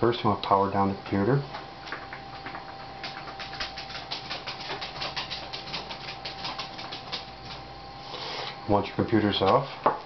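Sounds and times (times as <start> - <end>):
faint steady whine: 0.0 - 10.0.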